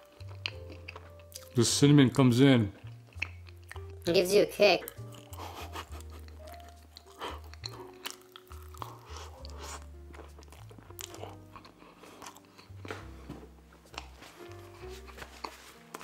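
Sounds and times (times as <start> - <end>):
mouth chewing and smacking: 0.0 - 4.1, 4.8 - 13.1, 13.8 - 16.0.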